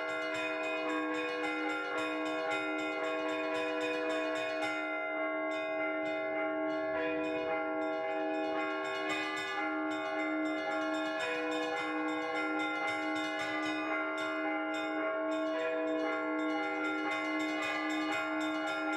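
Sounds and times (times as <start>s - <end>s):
church bells ringing: 0.0s - 18.9s.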